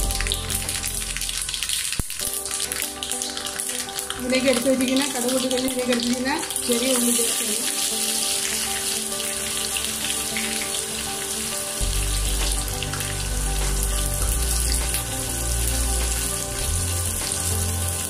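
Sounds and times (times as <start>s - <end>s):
shallots sizzling in hot oil: 0.0s - 18.0s.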